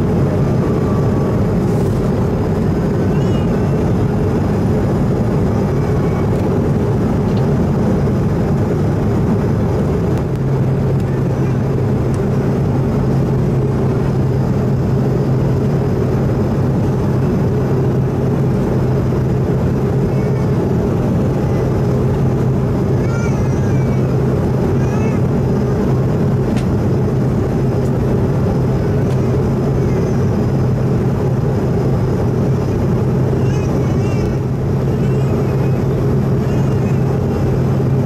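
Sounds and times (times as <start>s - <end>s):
airplane cabin drone: 0.0s - 38.0s.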